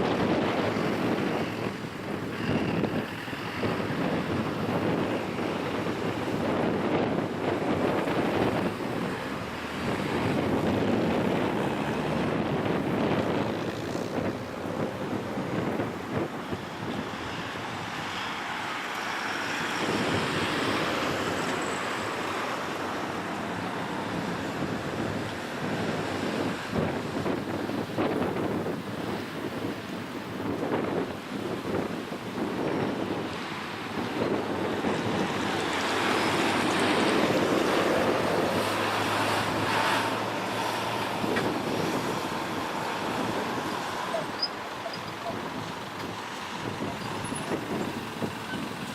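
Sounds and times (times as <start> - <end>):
road traffic passing: 0.0 - 48.9
wind buffeting microphone: 0.0 - 48.9.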